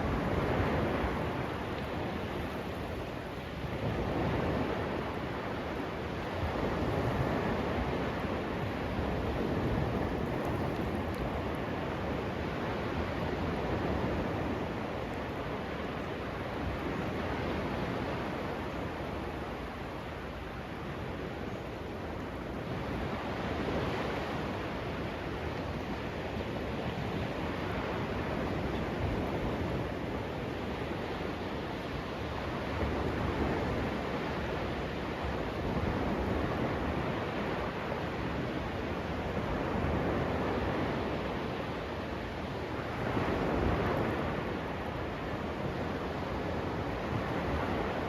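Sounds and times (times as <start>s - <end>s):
waves washing onto beach: 0.0s - 48.0s.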